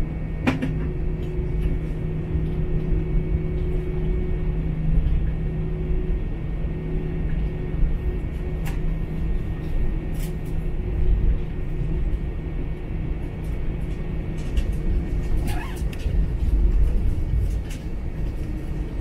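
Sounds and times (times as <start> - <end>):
low rumble of jet engines: 0.0 - 19.0.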